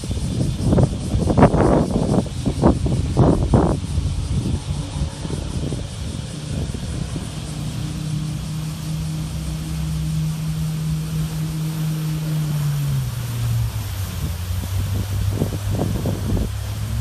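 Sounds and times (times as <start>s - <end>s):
jet ski engine: 0.0s - 17.0s
rushing water: 0.0s - 17.0s.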